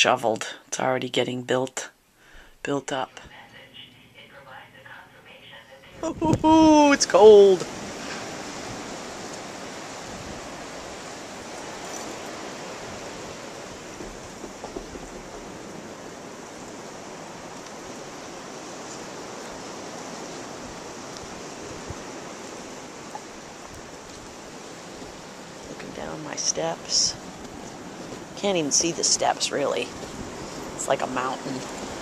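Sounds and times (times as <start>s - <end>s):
blizzard wind hissing: 6.0s - 32.0s.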